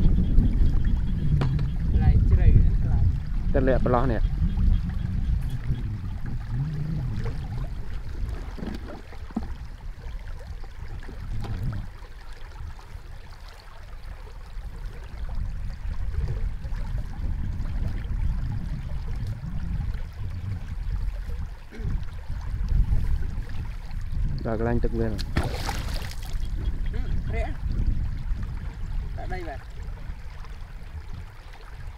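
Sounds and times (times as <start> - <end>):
wind rumble on microphone: 0.0 - 31.9
stream water rushing: 5.4 - 24.4, 25.2 - 31.9.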